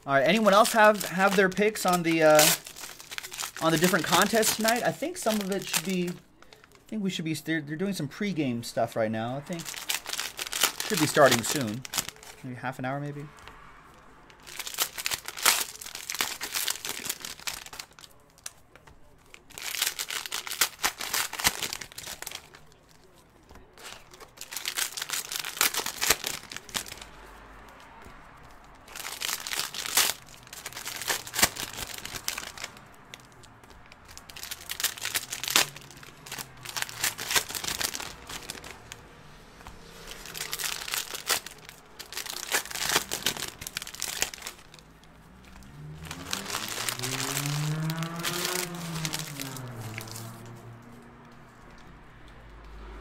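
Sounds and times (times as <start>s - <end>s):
plastic wrappers crinkling: 0.0s - 12.7s, 14.3s - 52.0s.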